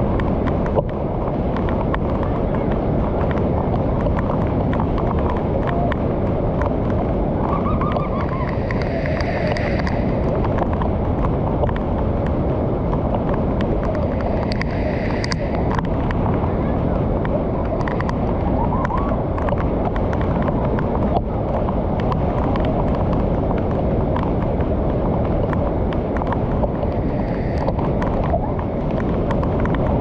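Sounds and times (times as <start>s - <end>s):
floodwater rushing over spillway: 0.0s - 30.0s.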